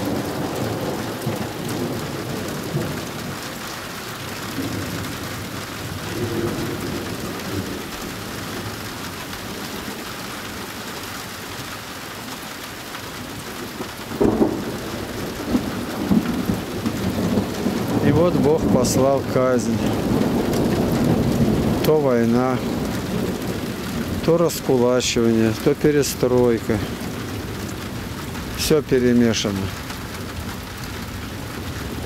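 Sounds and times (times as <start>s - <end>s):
rolling thunder: 0.0s - 10.0s, 13.4s - 32.0s
steady rain: 0.0s - 32.0s.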